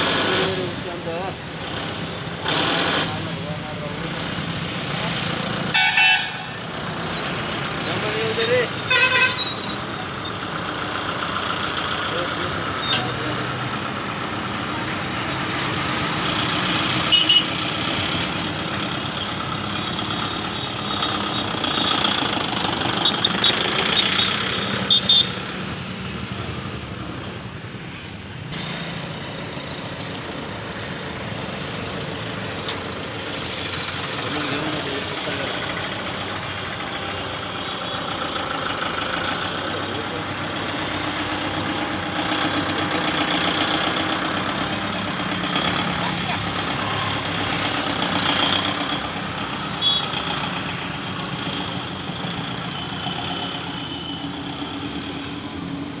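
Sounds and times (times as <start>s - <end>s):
tractor diesel engine running: 0.0s - 25.6s, 28.4s - 56.0s.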